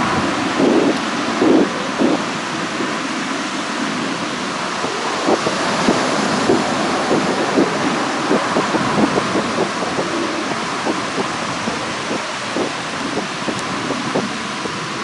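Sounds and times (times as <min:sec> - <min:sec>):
jet roar overhead: 0:00.0 - 0:15.0.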